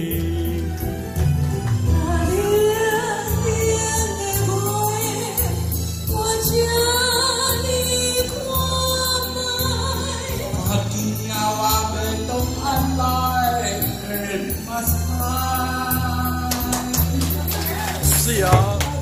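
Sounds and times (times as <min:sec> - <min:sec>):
karaoke backing track: 0:00.0 - 0:19.0
person singing into microphone: 0:00.0 - 0:19.0.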